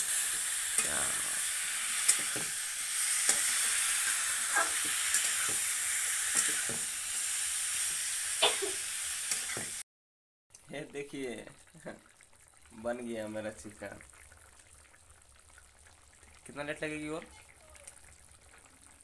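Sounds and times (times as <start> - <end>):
chicken sizzling in hot oil: 0.0 - 9.8, 10.7 - 19.0.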